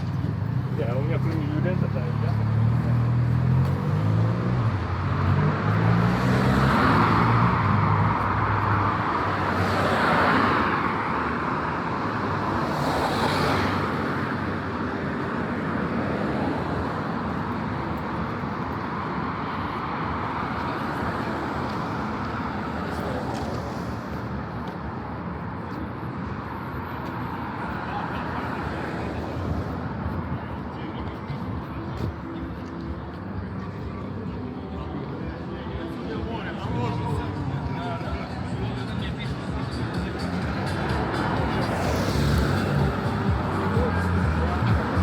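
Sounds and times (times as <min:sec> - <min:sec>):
background traffic: 0:00.0 - 0:45.0
cars passing by: 0:00.0 - 0:45.0.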